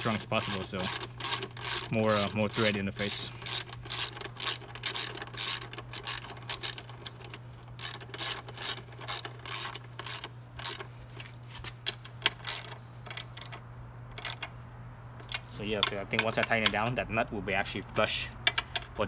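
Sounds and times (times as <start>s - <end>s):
ratchet wrench clicking: 0.0s - 14.6s, 15.2s - 17.0s, 17.9s - 19.0s.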